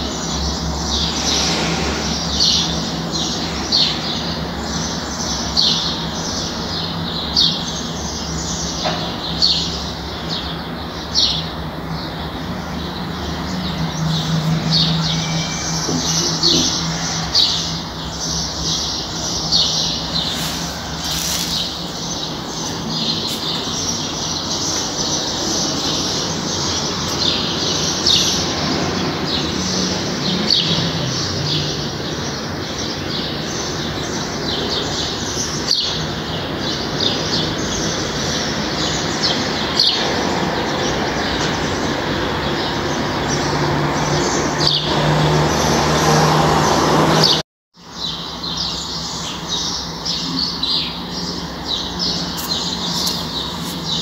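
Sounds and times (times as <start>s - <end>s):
small birds chirping: 0.0s - 43.4s, 47.2s - 54.0s.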